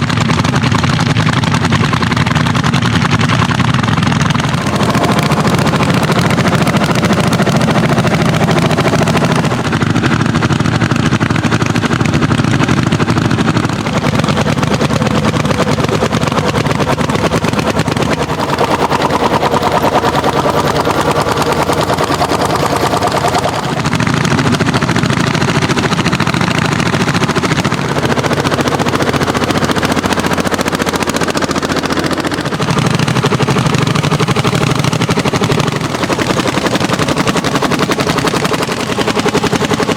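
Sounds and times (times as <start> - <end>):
tractor engines working hard: 0.0 - 39.9.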